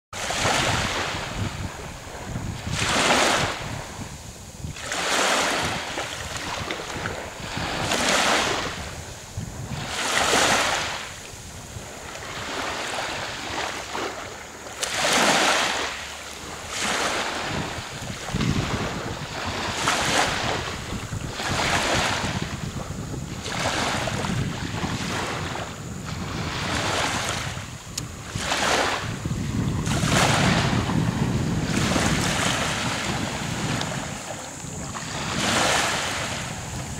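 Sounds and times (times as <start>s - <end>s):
small waves washing onto beach: 0.2s - 36.9s
wind buffeting microphone: 0.2s - 36.9s.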